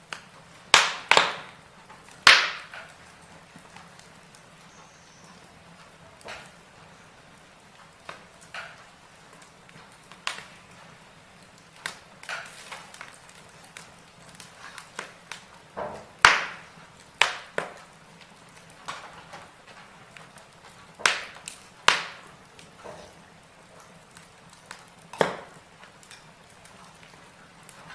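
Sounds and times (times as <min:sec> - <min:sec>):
sharp pops from burning logs: 0:00.0 - 0:27.9
wood fire crackling: 0:00.0 - 0:27.9.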